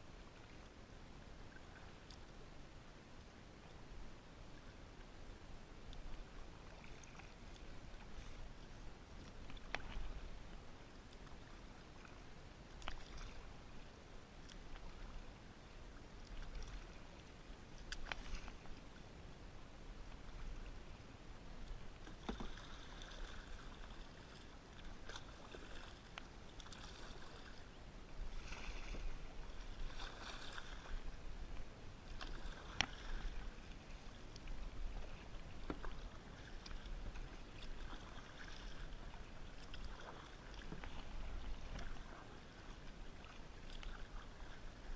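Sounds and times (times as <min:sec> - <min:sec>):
paddle splashing water: 0:04.4 - 0:44.9.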